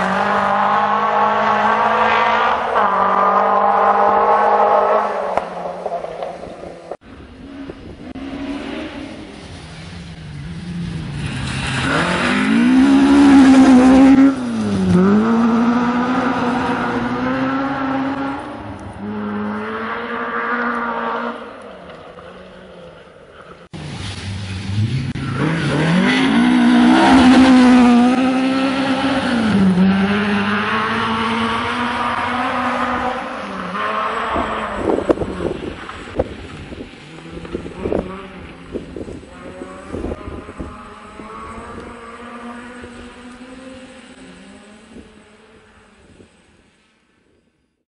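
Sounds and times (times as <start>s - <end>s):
rally car engine at full throttle: 0.0s - 46.6s.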